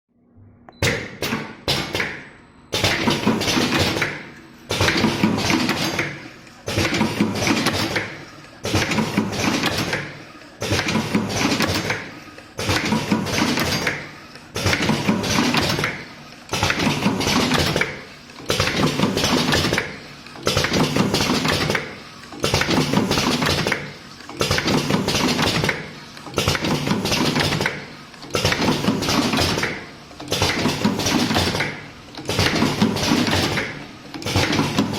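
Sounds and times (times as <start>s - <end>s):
packing machine clattering and clicking: 2.8s - 34.9s.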